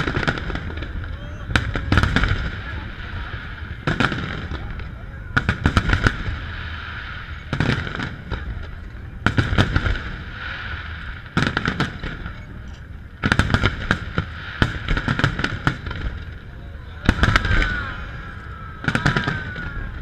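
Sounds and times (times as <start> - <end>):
fireworks bursting in sharp bangs: 0.0 - 20.0.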